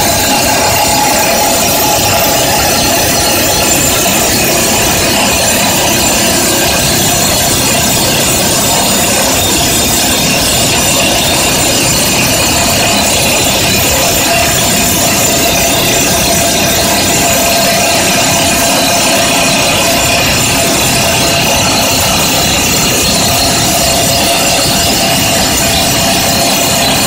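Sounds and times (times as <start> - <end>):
hydraulic rock drill rattling: 0.0 - 27.0.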